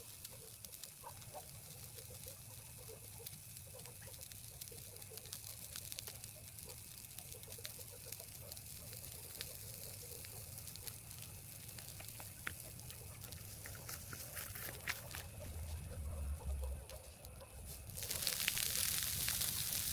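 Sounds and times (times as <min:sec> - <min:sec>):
sharp clicks and crackles: 0:00.0 - 0:19.9
steady hiss: 0:00.0 - 0:19.9.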